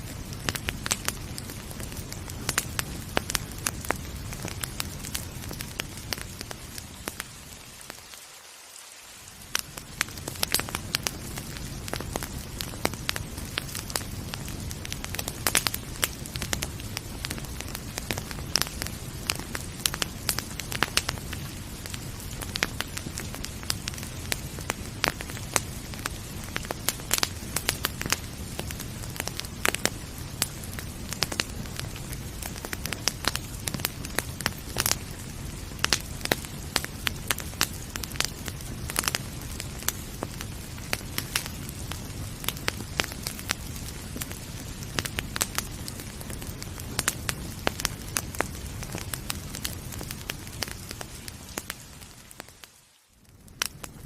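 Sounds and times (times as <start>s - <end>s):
wood fire crackling and popping: 0.0s - 8.3s, 9.2s - 54.0s
rain hissing: 0.0s - 54.0s.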